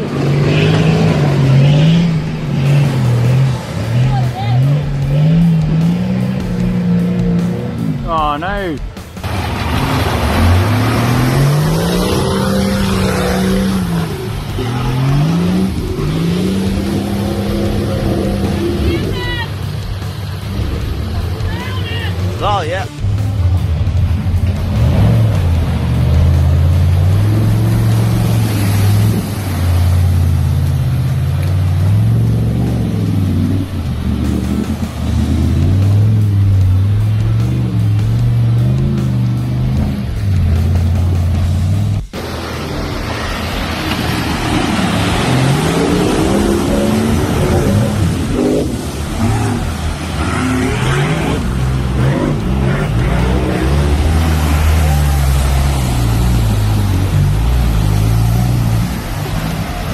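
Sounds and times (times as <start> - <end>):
background music: 0.0 - 59.9
off-road engine revving: 0.0 - 59.9.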